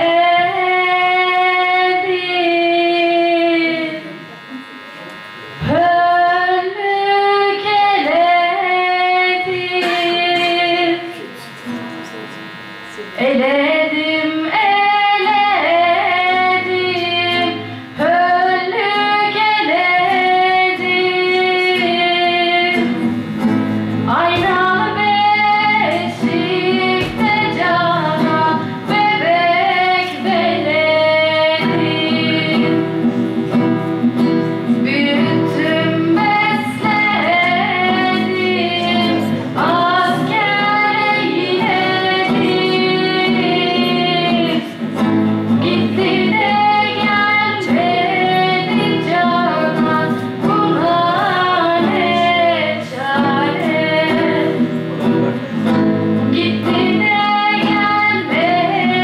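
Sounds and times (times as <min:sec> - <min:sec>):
girl singing into a microphone: 0:00.0 - 0:04.8, 0:05.6 - 0:12.4, 0:13.1 - 0:59.0
acoustic guitar and plucked strings: 0:00.0 - 0:59.0.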